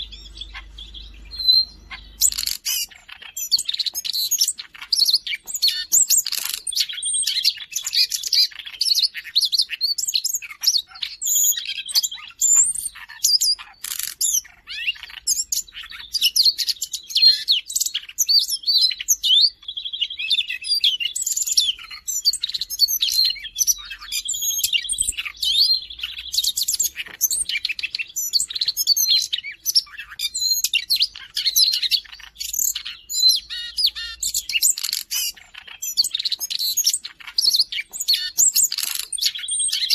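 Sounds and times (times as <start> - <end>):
bird warbling song: 0.0 - 39.9
buzzy bird trill: 0.0 - 39.9.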